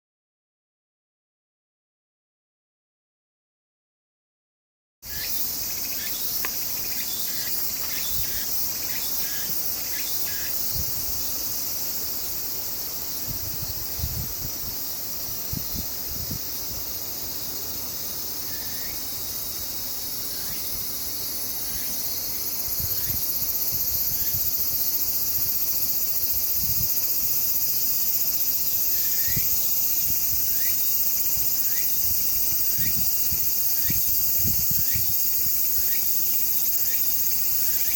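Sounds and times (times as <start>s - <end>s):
high-pitched insect chorus: 5.0s - 37.9s.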